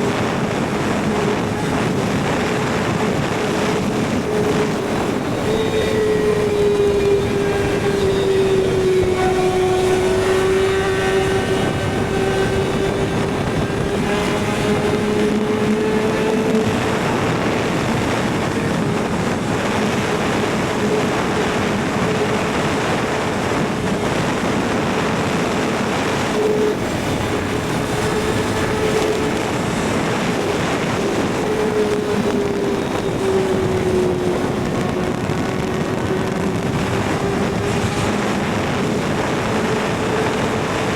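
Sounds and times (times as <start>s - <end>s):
motorcycle engine at high revs: 0.0s - 40.9s
wind noise: 0.0s - 40.9s.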